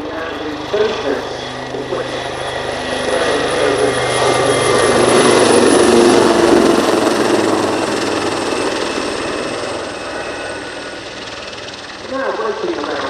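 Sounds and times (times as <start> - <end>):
helicopter flying past: 0.0 - 13.0.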